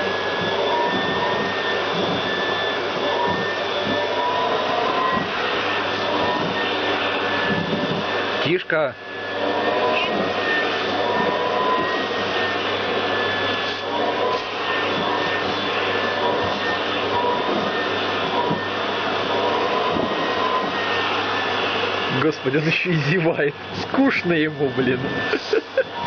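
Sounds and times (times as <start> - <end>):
vacuum cleaner whine: 0.0 - 26.0.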